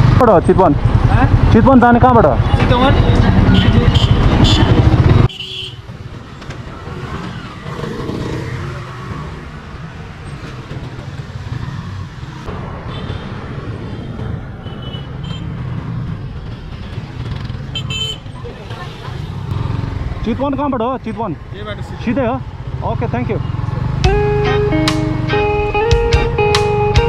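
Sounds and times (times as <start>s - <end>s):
traffic hum: 0.0s - 26.9s
close vehicle rumble: 0.0s - 27.0s.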